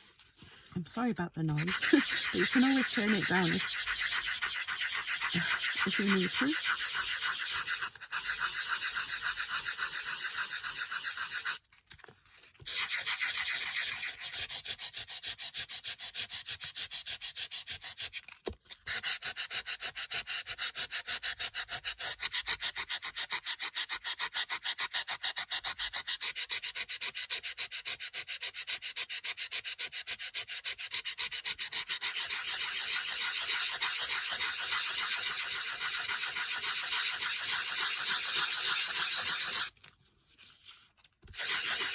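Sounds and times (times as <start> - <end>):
sanding block rubbing cardstock: 0.0 - 11.6, 12.6 - 41.9.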